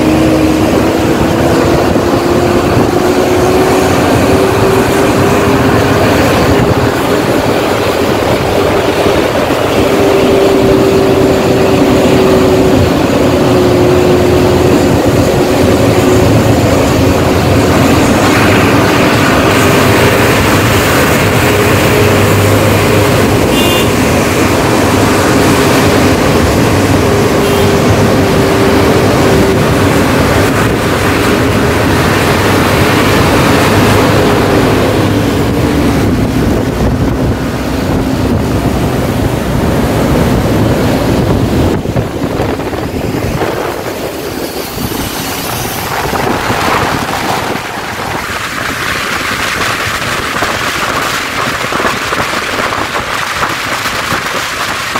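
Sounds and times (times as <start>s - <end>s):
diesel coach engine hum: 0.0s - 54.9s
rain rushing: 0.0s - 54.9s
traffic noise: 0.0s - 54.9s.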